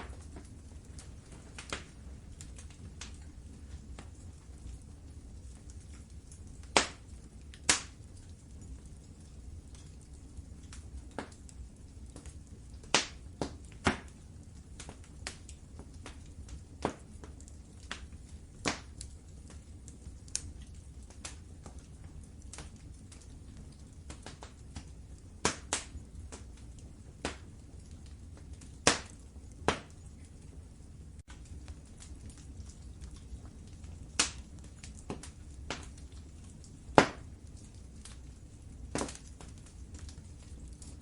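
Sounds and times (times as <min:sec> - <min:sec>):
low rumble of burning fire: 0:00.0 - 0:41.0
wood fire crackling: 0:00.0 - 0:41.0.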